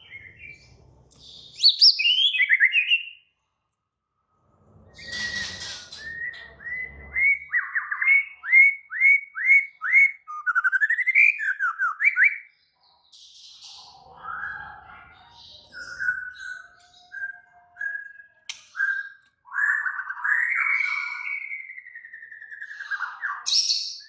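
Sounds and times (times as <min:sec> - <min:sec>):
bird song with whistles and trill: 0:00.0 - 0:03.4, 0:04.9 - 0:24.0.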